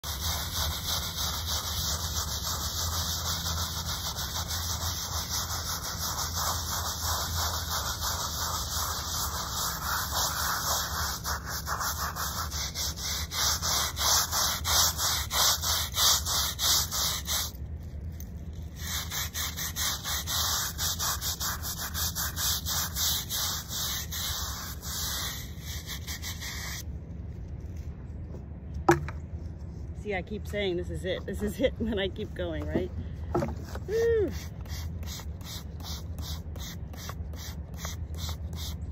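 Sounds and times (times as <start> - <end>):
brush scrubbing stone: 0.0 - 17.6, 18.6 - 26.8, 31.1 - 38.9.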